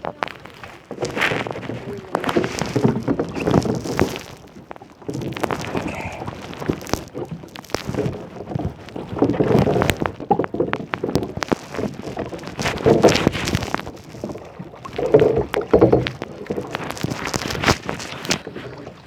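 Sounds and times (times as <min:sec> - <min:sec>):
water splashing around kayak: 0:00.0 - 0:19.0.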